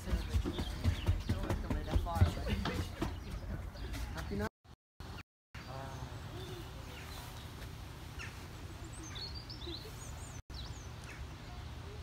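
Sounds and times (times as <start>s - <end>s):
small birds chirping and twittering: 0.0s - 12.0s.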